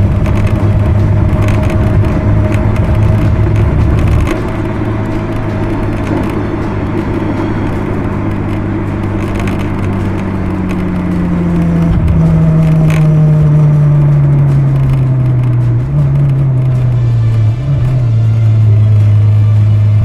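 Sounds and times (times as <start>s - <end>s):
car engine cruising: 0.0s - 20.0s
tyre and road noise: 0.0s - 20.0s.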